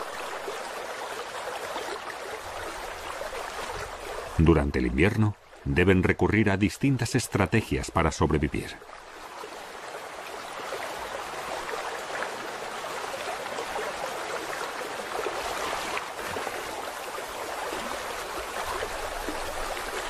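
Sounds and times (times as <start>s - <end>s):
river rushing and trickling: 0.0s - 20.0s.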